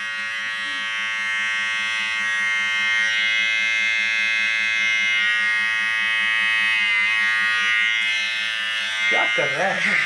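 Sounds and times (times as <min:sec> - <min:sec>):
electric beard trimmer buzzing: 0:00.0 - 0:10.0.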